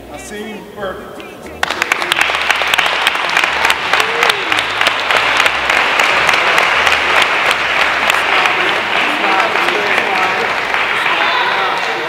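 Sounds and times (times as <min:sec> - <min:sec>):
people clapping: 0:01.5 - 0:12.0.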